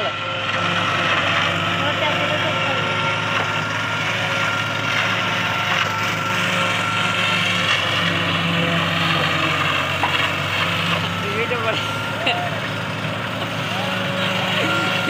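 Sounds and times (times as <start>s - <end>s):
forage chopper whirring: 0.0s - 15.0s
tractor engine running: 0.0s - 15.0s
thin steady whine: 1.8s - 15.0s.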